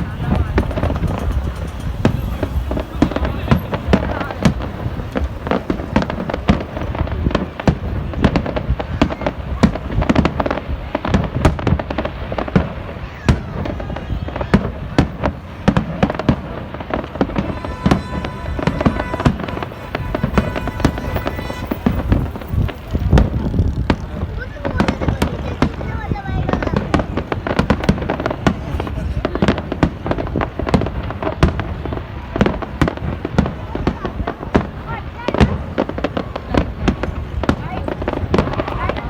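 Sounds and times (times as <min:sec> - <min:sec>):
fireworks bangs and crackles: 0:00.0 - 0:39.0.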